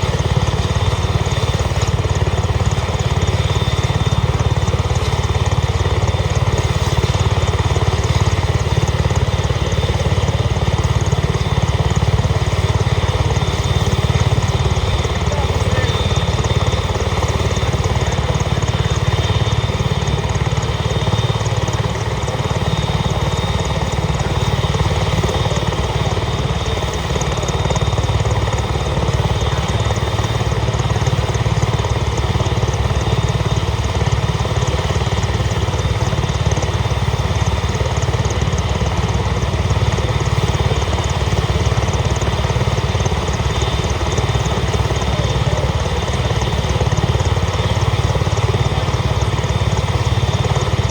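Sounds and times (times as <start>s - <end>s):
helicopter turbine whine and rumble: 0.0s - 50.9s.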